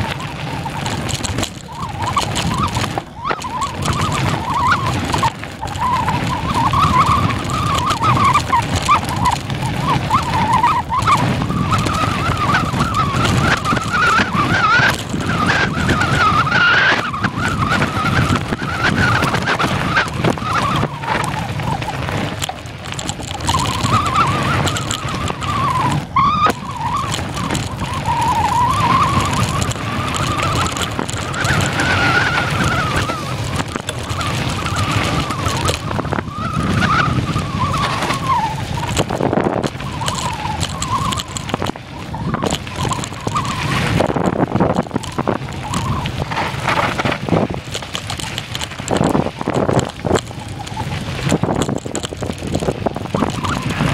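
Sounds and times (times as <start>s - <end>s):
bike clicks and knocks: 0.0s - 53.9s
tyres rumbling over gravel: 0.0s - 53.9s.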